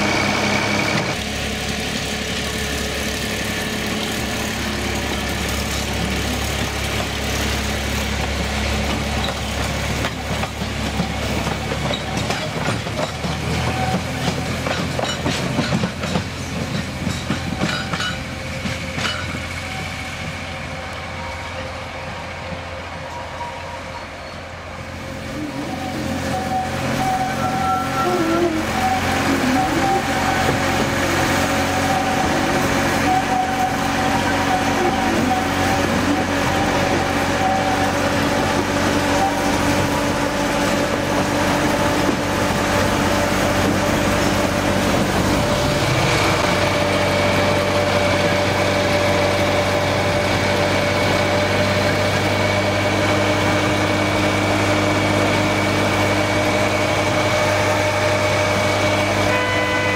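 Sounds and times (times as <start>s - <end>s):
diesel locomotive engine running: 0.0s - 59.9s.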